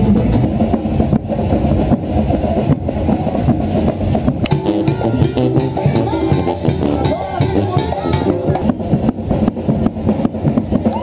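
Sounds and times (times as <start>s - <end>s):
low steady rumble: 0.0s - 11.0s
parade music with drums: 0.0s - 11.0s.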